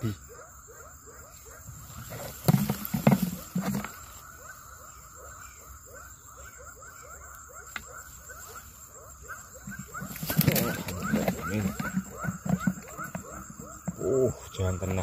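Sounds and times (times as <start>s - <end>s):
animals chirping: 0.0s - 15.0s
high insect whine: 0.0s - 15.0s.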